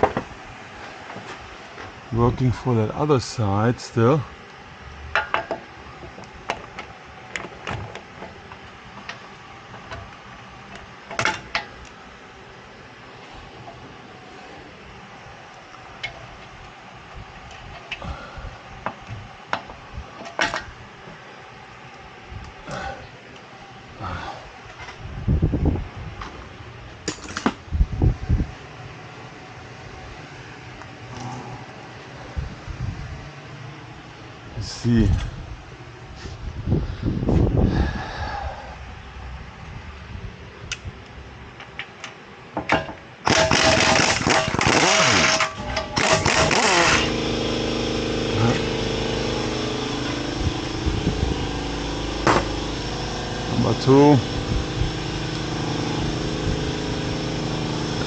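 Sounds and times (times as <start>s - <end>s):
low rumble of tool handling: 0.0s - 2.6s, 4.4s - 28.6s, 35.0s - 58.0s.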